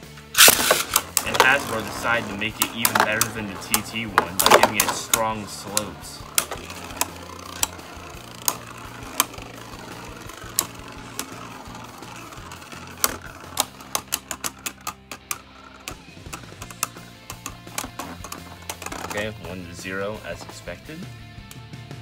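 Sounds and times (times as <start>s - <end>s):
spinning tops clacking together: 0.2s - 20.7s.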